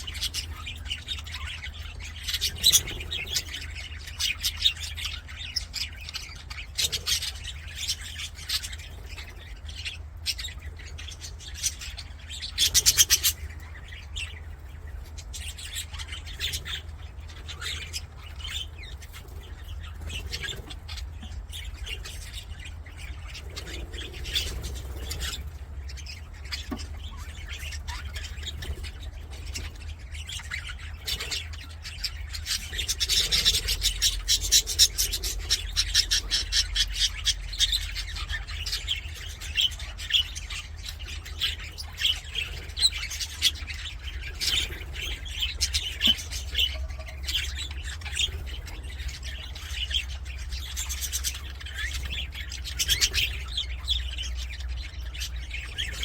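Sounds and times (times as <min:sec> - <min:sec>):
budgerigars chattering: 0:00.0 - 0:56.0
steady low hum: 0:00.0 - 0:56.0.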